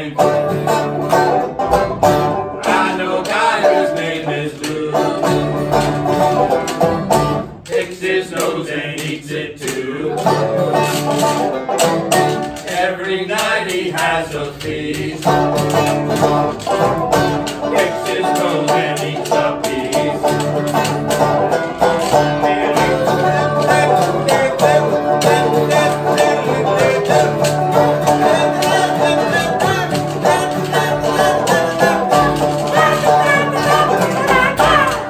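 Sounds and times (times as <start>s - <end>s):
washtub bass: 0.0s - 7.6s, 13.6s - 35.0s
acoustic guitar strumming: 0.0s - 7.8s, 10.1s - 35.0s
banjo strumming: 0.0s - 35.0s.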